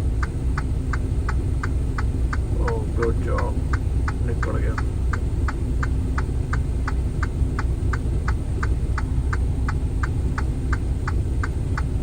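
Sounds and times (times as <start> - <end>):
truck idling rumble: 0.0 - 12.0
rapid even ticking: 0.2 - 12.0.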